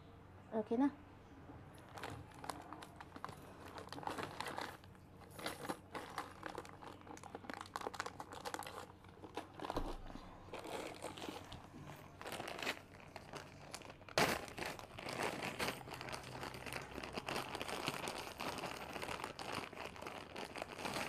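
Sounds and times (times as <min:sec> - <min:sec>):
plastic bag crinkling: 0:01.8 - 0:21.0.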